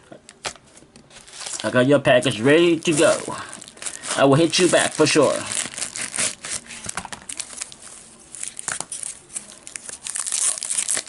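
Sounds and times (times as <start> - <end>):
packaging crinkling: 1.1 - 11.0.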